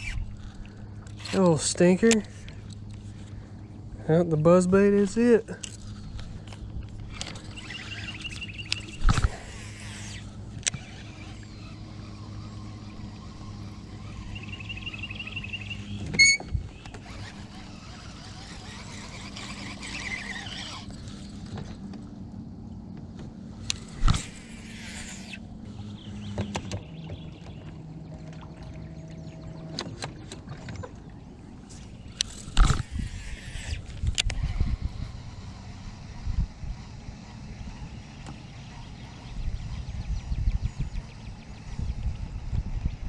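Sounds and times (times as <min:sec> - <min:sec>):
boat motor humming: 0:00.0 - 0:43.0.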